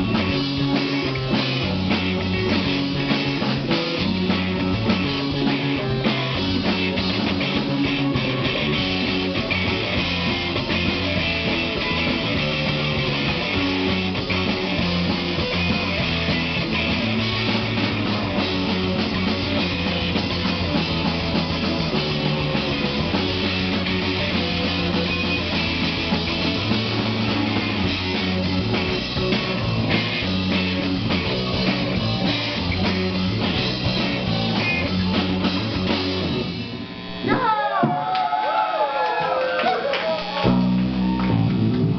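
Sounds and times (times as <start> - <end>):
rock band playing live: 0.0 - 38.4, 39.2 - 41.9.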